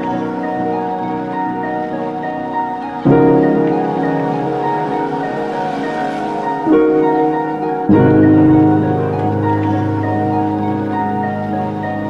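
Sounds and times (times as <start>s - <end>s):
repeating higher melody: 0.0s - 12.0s
sustained pitched notes: 0.0s - 12.0s.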